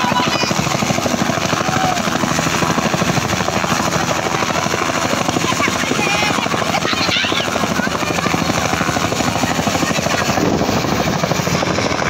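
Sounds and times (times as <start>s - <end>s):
helicopter rotor beating: 0.0s - 12.0s
turbine running: 0.0s - 12.0s.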